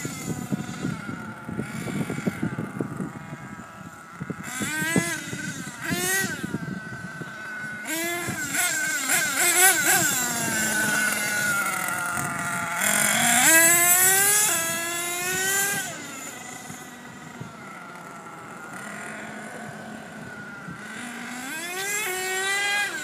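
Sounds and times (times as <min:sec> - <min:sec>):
small two-stroke engine revving: 0:00.0 - 0:23.0.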